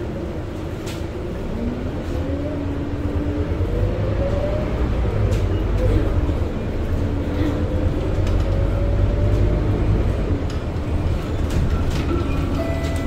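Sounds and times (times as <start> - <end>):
diesel bus engine rumble: 0.0 - 13.0
road noise: 0.0 - 13.0.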